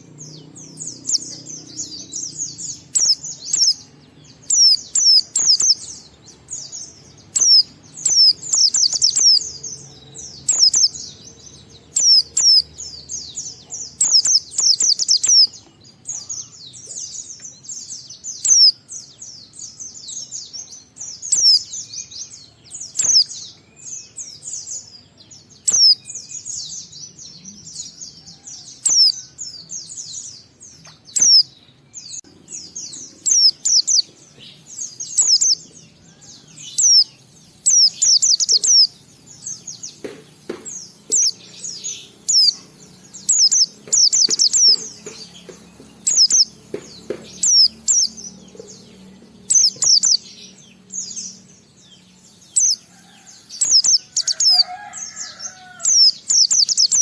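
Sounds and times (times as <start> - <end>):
bird twittering warbles: 0.0 - 18.8, 22.8 - 23.6, 30.8 - 57.0.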